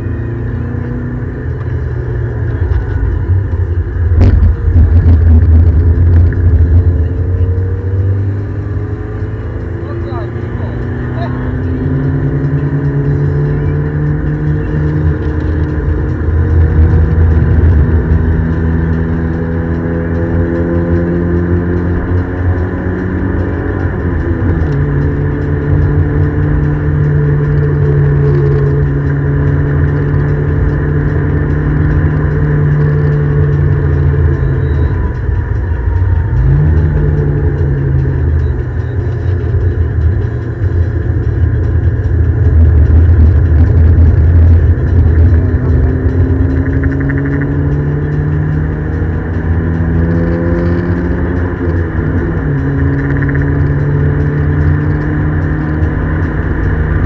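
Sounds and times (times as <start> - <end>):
car engine pulling hard: 0.0 - 57.0
road and wind rumble: 0.0 - 57.0.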